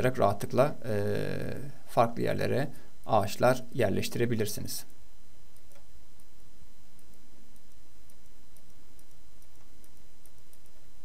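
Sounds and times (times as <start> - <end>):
microphone hiss and hum: 0.0 - 11.0.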